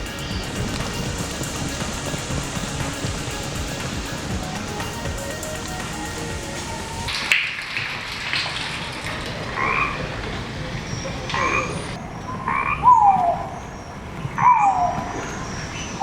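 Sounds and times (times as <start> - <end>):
frogs croaking: 0.0 - 16.0.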